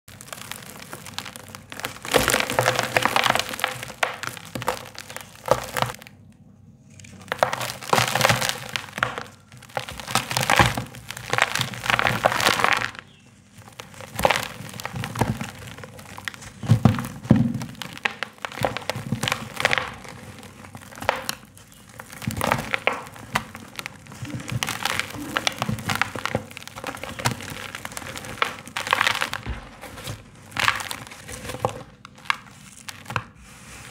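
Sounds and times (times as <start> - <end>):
grit pouring through fingers: 0.1 - 6.1, 7.1 - 33.9
dry chunks crunching by hand: 0.1 - 33.9.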